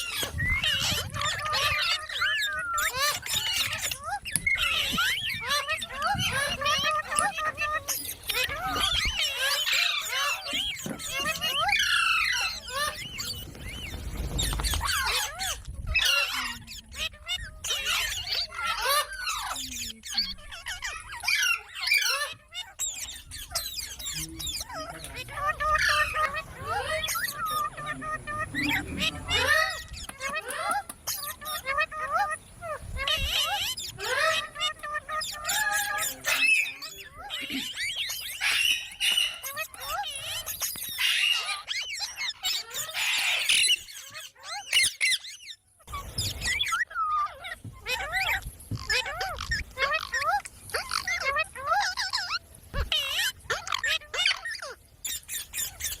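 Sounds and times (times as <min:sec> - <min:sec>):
parrots chattering: 0:00.0 - 0:56.0.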